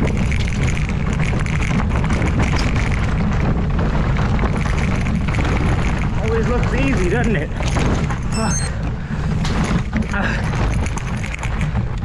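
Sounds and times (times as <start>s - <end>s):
mountain bike rattling: 0.0s - 8.3s, 9.0s - 12.0s.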